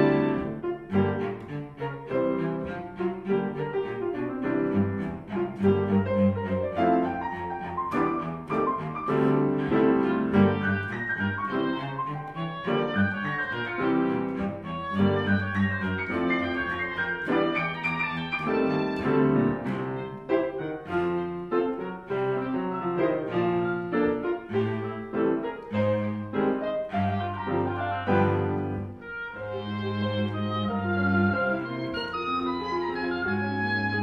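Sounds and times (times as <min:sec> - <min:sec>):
cello: 0:00.0 - 0:34.0
piano notes: 0:00.0 - 0:34.0
oboe: 0:06.0 - 0:21.4, 0:22.1 - 0:34.0.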